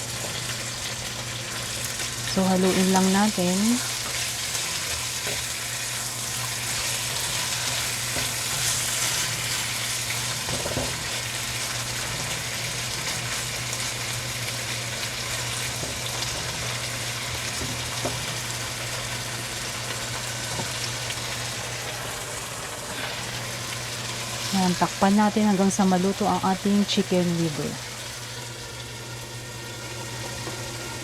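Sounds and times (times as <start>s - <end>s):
liver sizzling in a frying pan: 0.0s - 31.0s.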